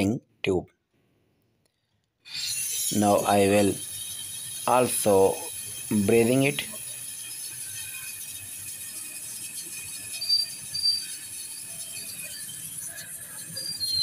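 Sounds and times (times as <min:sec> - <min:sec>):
torch flame hissing: 0:02.3 - 0:14.0.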